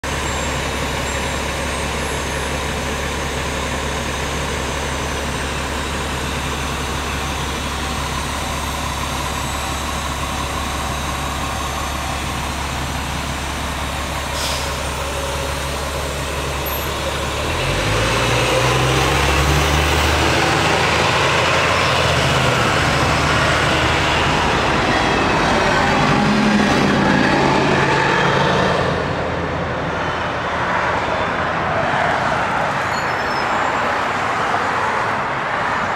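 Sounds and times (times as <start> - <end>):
large engine running: 0.0 - 30.7.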